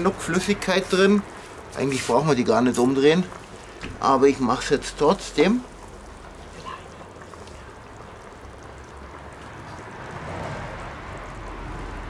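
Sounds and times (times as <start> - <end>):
liquid bubbling in a pot: 0.0 - 12.0.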